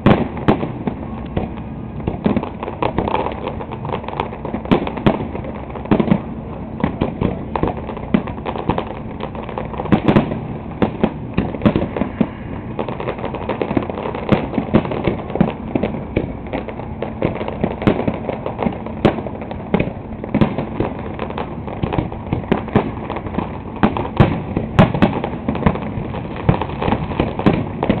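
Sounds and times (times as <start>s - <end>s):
fireworks bursts and crackling: 0.0s - 28.0s.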